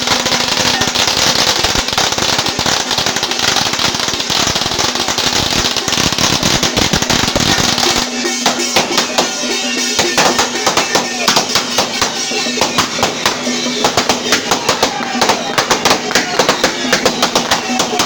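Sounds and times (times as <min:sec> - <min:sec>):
firecrackers crackling: 0:00.0 - 0:18.0
traditional band music: 0:00.0 - 0:18.0.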